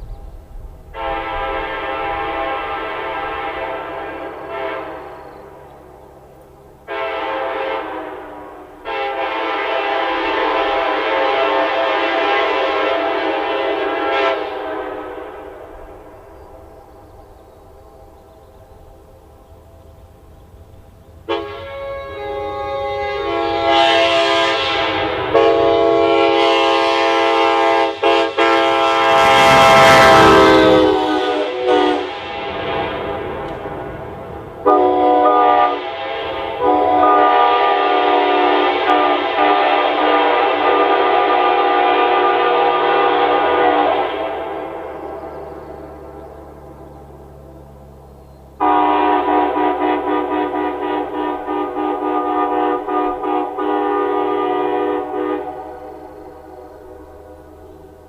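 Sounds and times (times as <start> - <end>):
passing train hiss and rumble: 0.0 - 58.0
locomotive air horn blasts: 0.9 - 5.7, 6.8 - 16.7, 21.2 - 45.4, 48.6 - 58.0.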